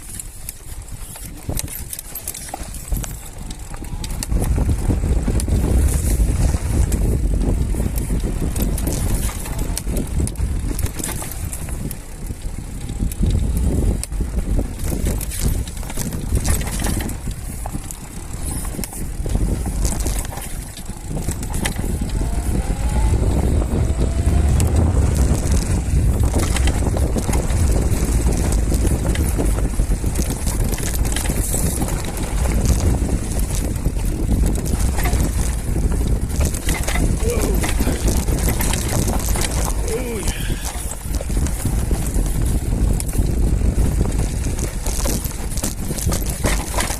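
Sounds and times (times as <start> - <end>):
bike knocking and rattling: 0.0 - 46.9
tyre noise on dirt: 0.0 - 46.9
wind rumbling on microphone: 0.0 - 46.9.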